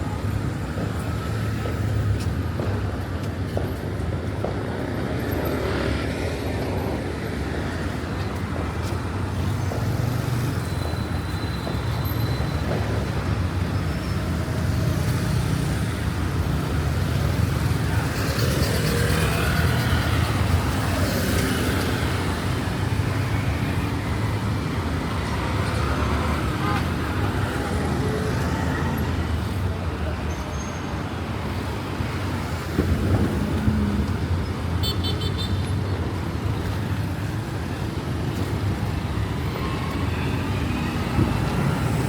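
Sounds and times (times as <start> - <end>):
vehicle engines and road noise: 0.0 - 42.0.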